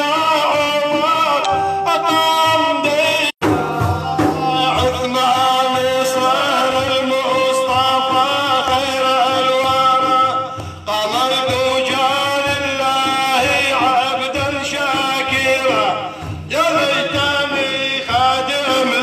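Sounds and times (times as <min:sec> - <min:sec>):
devotional music with ornamented melody: 0:00.0 - 0:19.0.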